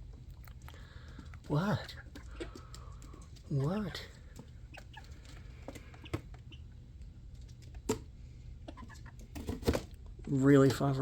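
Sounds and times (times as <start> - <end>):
low steady hum: 0.0 - 11.0
chickens pecking and scratching: 0.1 - 11.0.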